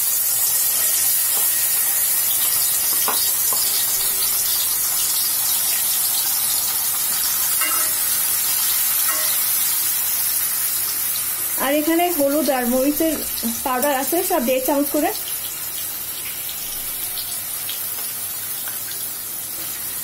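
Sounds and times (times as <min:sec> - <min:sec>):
onion paste sizzling in hot oil: 0:00.0 - 0:20.0.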